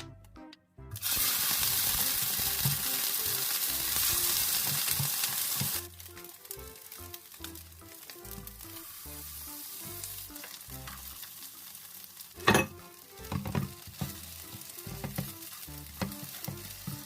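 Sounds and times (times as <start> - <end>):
food sizzling in frying pan: 1.0 - 17.0.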